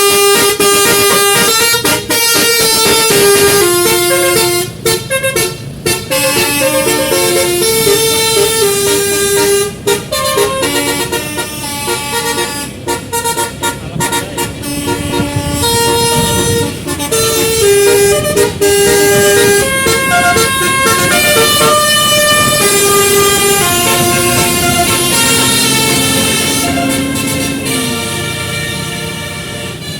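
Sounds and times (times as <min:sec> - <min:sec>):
musical air horn melody: 0:00.0 - 0:29.9.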